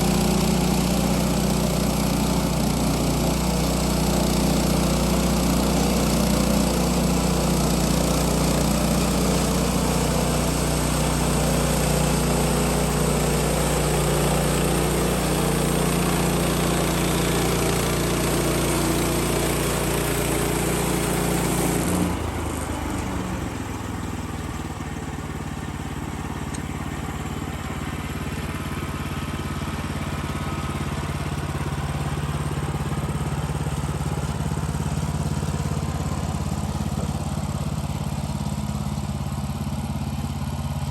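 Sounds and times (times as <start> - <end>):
sawmill engine running under load: 0.0 - 40.9.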